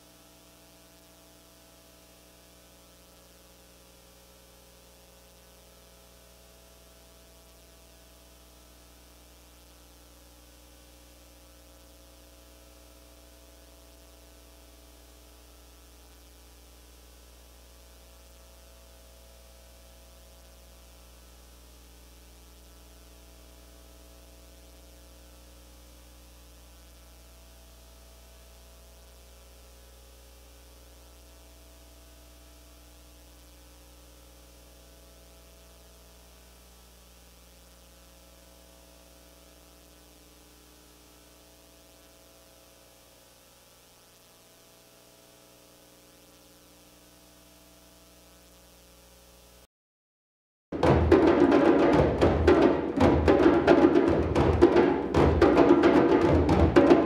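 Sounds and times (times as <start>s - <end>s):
low electrical hum: 0.0s - 49.6s
faint hiss: 0.0s - 49.7s.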